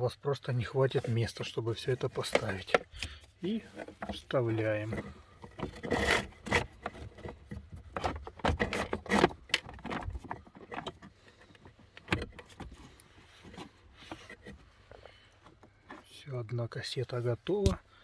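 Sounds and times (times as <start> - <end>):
filter scraping and clicking into housing: 1.1 - 16.1.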